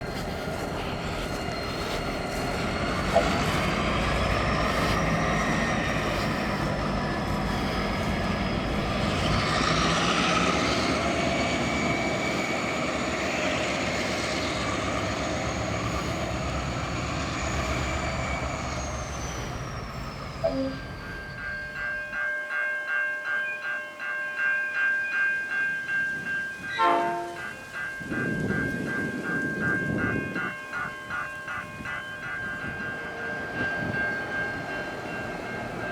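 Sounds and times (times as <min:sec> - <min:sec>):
train passing rumble: 0:00.0 - 0:22.2, 0:25.2 - 0:35.9.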